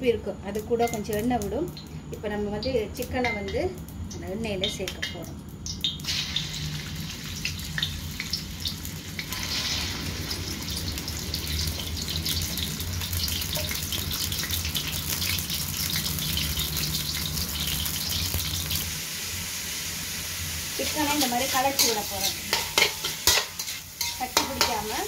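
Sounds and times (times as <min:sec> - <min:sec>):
meat sizzling in hot oil: 0:02.7 - 0:25.0.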